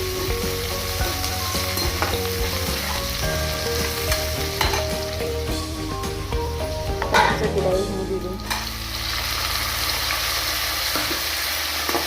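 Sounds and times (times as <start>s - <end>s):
onions sizzling in oil: 0.0s - 7.3s, 8.2s - 12.0s.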